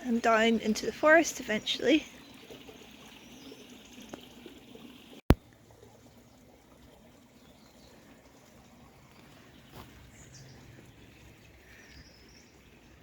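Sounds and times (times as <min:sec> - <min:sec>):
water trickling in ditch: 0:00.0 - 0:13.0.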